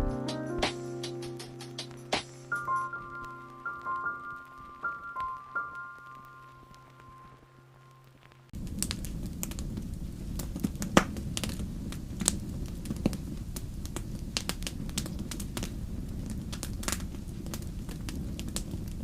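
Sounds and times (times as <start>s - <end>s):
wood fire crackling and popping: 1.7s - 19.0s.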